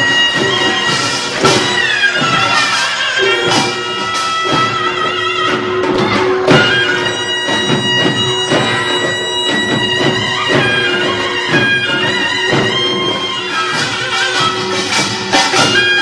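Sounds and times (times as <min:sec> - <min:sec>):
fast drum and gong strikes: 0:00.0 - 0:16.0
reedy shawm long notes: 0:00.0 - 0:16.0.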